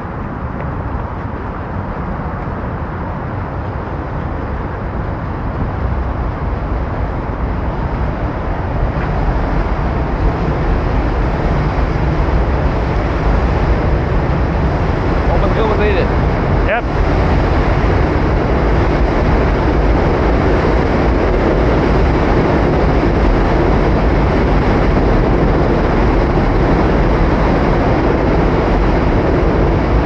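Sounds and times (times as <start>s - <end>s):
vehicle rumble: 0.0s - 30.0s.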